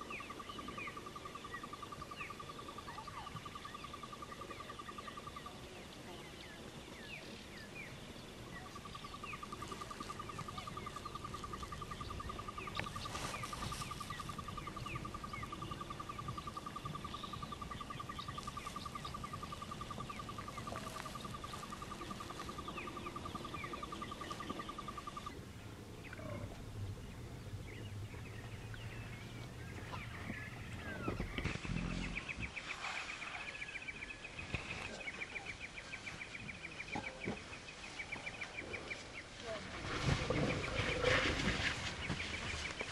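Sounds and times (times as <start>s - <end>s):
bird chirps: 0.0s - 39.6s.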